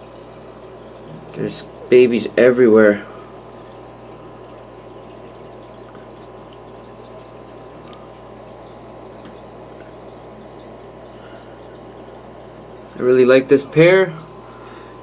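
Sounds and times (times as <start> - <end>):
low steady hum: 0.0 - 15.0
sponge filter bubbling: 0.0 - 15.0.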